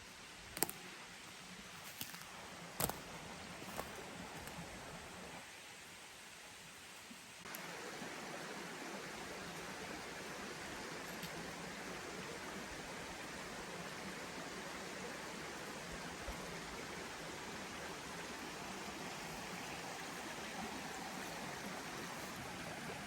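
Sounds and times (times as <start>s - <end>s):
forest stream rushing: 0.0s - 23.0s.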